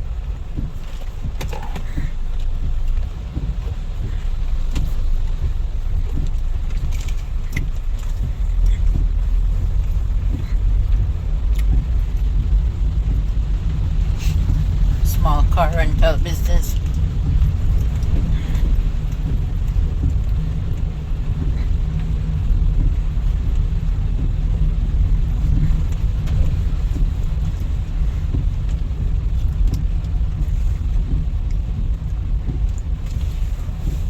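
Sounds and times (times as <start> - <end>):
car driving on wet road: 0.0 - 34.0.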